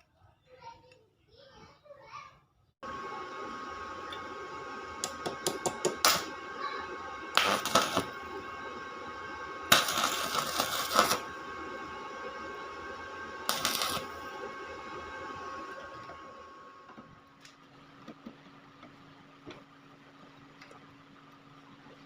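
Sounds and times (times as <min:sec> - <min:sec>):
steady hum: 0:02.8 - 0:22.0.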